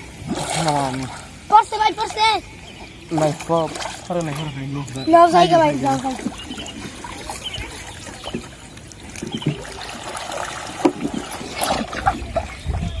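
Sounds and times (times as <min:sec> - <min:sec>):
people wading through water: 0:00.0 - 0:13.0
traps plunging into water: 0:00.0 - 0:13.0.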